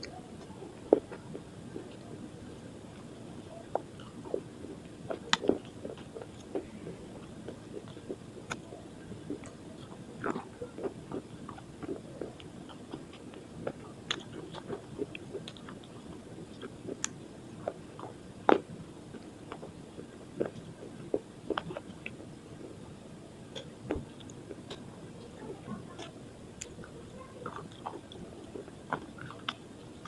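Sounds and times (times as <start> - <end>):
chalky sticks crunching when chewed: 3.7 - 22.8, 23.5 - 30.0.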